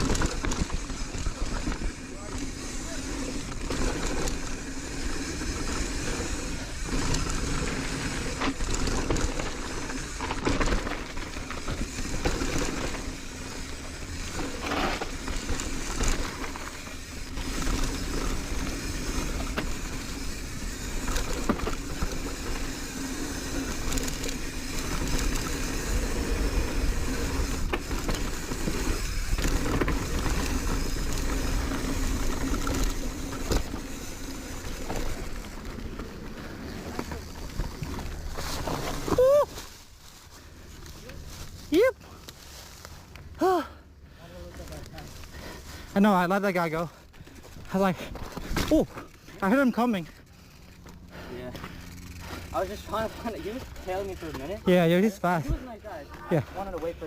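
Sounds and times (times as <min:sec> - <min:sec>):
bike knocking and rattling: 0:00.0 - 0:57.0
bike tyre noise: 0:00.0 - 0:57.0
wind: 0:00.0 - 0:57.0.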